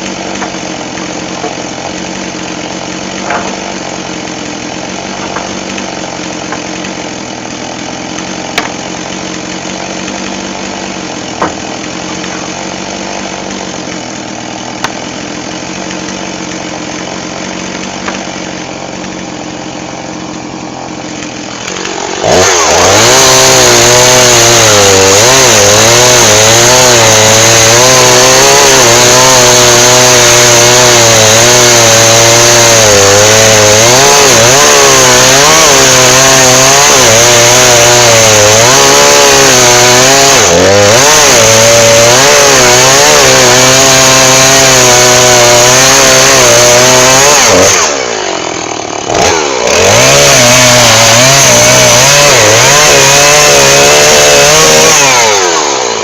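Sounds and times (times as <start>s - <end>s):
chainsaw sawing wood: 0.0s - 56.0s.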